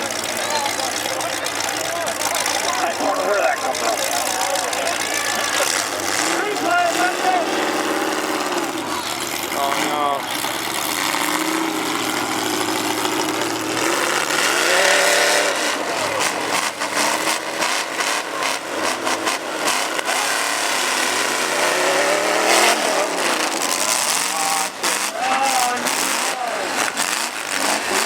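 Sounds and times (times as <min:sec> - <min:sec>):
truck engines revving: 0:00.0 - 0:28.0.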